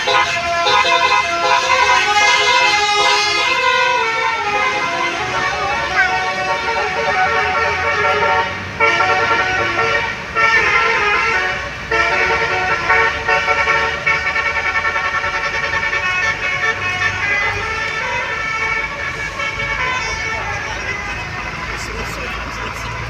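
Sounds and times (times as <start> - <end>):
bus engine hum: 0.0 - 23.0
multi-tone bus horn melody: 0.0 - 23.0.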